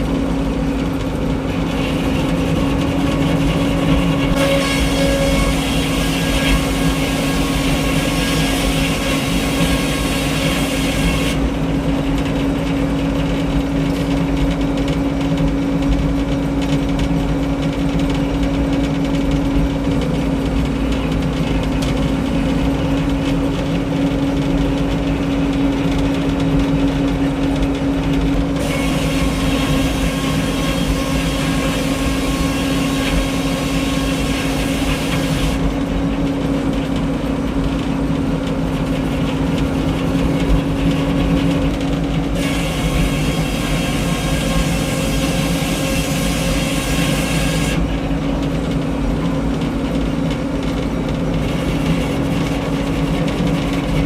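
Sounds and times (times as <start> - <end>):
sawmill mechanical drone: 0.0 - 54.0.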